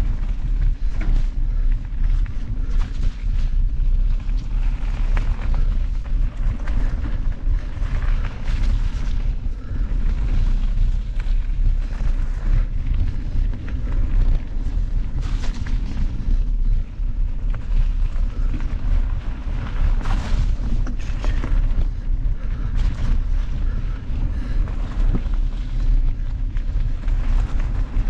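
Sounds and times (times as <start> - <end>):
bike tyres crunching on trail: 0.0 - 28.0
wind buffeting microphone: 0.0 - 28.0.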